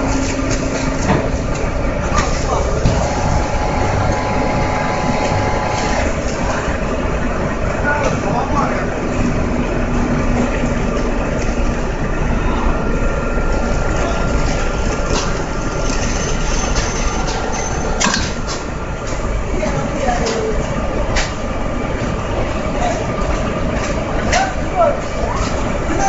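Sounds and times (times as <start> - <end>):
sewing machine and conveyor running: 0.0 - 24.2.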